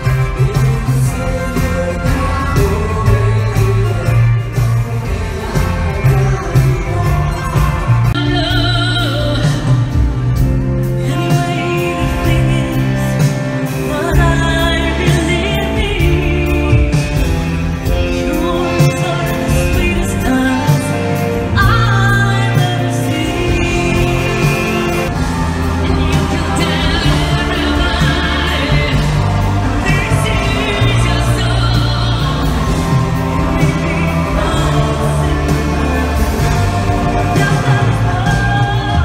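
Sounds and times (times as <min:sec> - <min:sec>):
live band with singing: 0:00.0 - 0:39.0.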